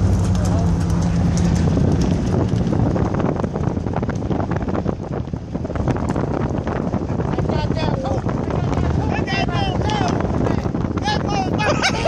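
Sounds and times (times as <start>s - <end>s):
truck rumbling on dirt road: 0.0s - 12.0s
wind buffeting microphone: 0.0s - 12.0s.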